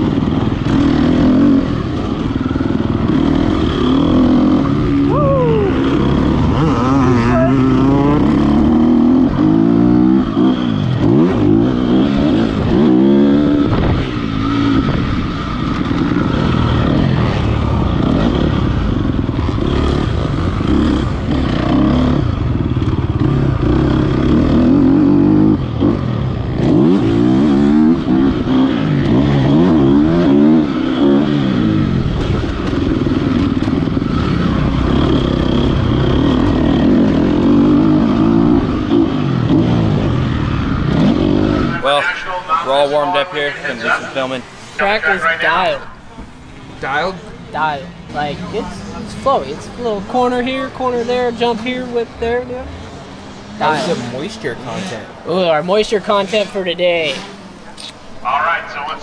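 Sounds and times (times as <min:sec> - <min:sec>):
motocross bike engine revving: 0:00.0 - 0:58.6.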